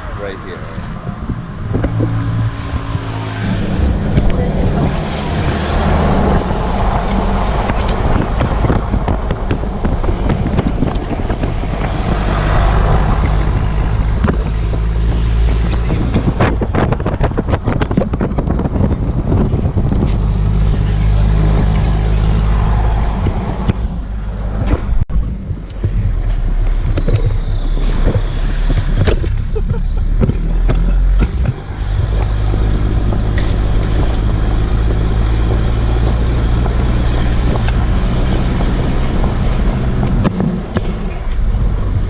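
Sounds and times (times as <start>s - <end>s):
vehicle engine drone: 0.0s - 42.0s.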